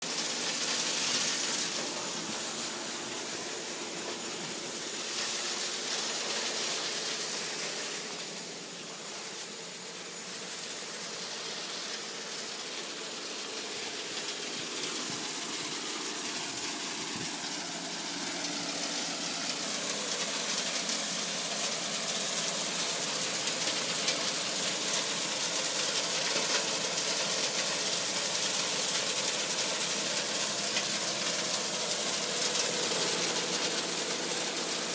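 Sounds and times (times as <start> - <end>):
water gushing over sand: 0.0 - 34.9.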